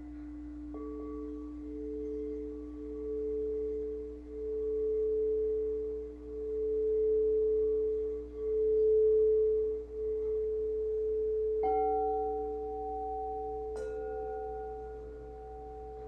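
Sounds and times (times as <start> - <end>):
singing bowl ringing: 0.0 - 16.0.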